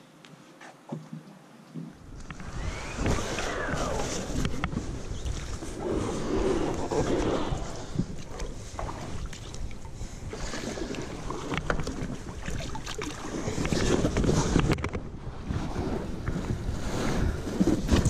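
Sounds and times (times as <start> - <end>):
water splashing around kayak: 2.0 - 18.0
wind buffeting microphone: 2.0 - 18.0.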